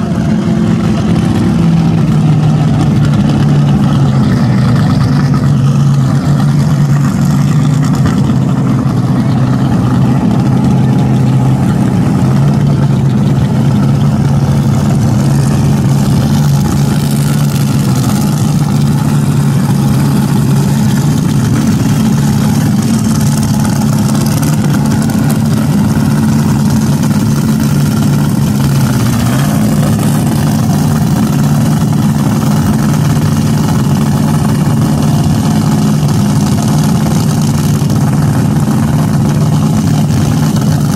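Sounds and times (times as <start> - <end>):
dragster engines idling: 0.0 - 40.9.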